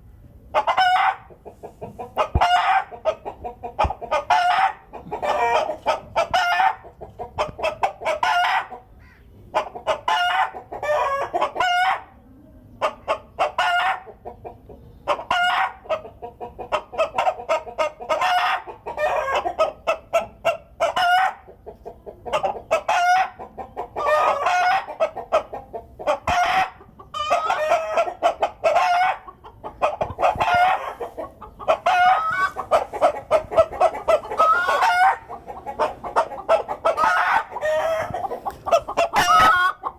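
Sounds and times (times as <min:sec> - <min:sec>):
hens cackling and clucking: 0:00.0 - 0:39.9.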